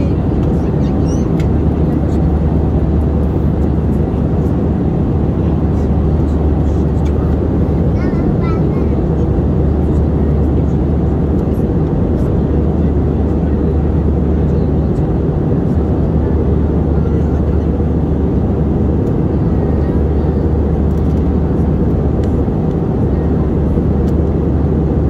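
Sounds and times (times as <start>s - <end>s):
airliner cabin engine drone: 0.0s - 25.0s.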